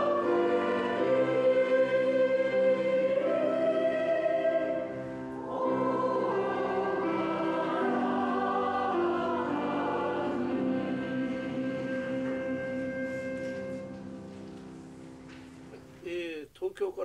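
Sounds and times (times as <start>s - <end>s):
choir singing a hymn: 0.0s - 14.2s.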